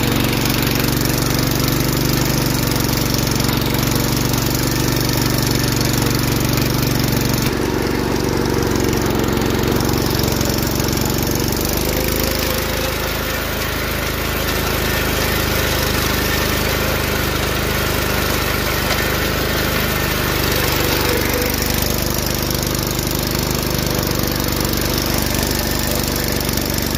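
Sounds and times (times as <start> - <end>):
lawn tractor engine running: 0.0 - 26.9.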